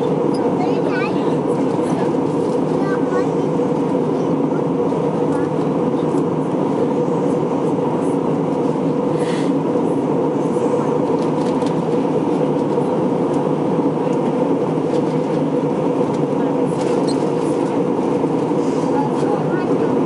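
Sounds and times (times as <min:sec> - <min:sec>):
airplane cabin drone: 0:00.0 - 0:20.0
jet engines humming: 0:00.0 - 0:20.0
rush of airflow: 0:01.4 - 0:20.0.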